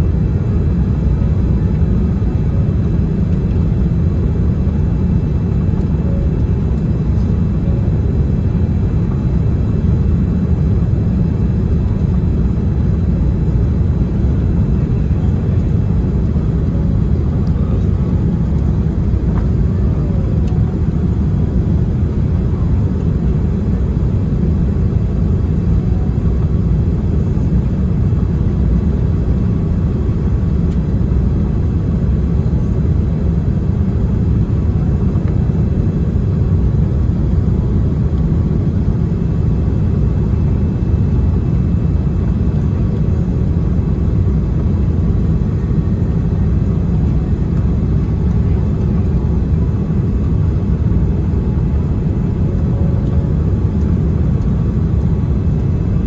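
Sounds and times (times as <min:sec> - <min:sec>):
airliner low rumble: 0:00.0 - 0:56.0.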